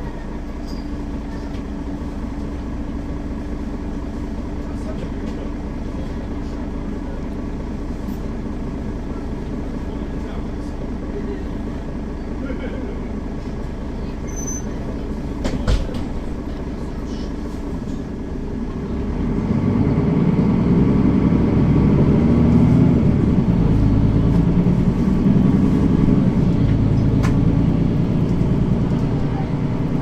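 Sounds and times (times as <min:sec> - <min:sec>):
bus diesel engine drone: 0:00.0 - 0:30.0.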